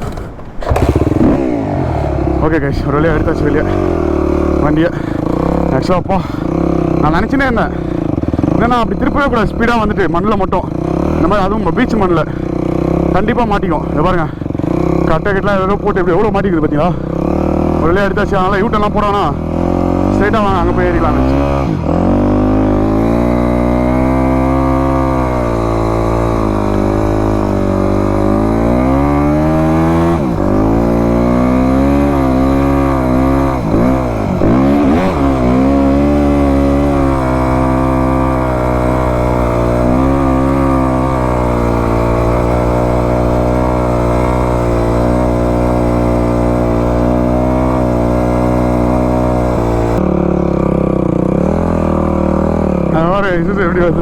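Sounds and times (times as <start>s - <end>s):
pickup engine revving in sand: 0.0s - 10.1s, 16.7s - 54.0s.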